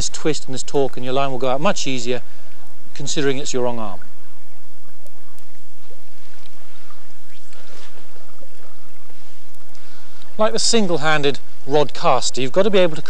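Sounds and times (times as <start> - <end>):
faint river ambience: 0.0 - 13.0
low hum: 0.0 - 13.0
tape hiss: 0.0 - 13.0.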